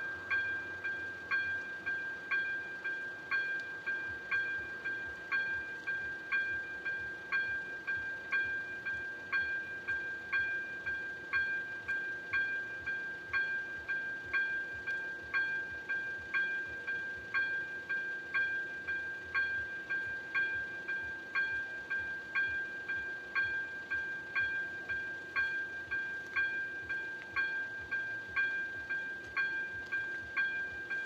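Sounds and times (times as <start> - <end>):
level crossing warning bell ringing: 0.0 - 31.0.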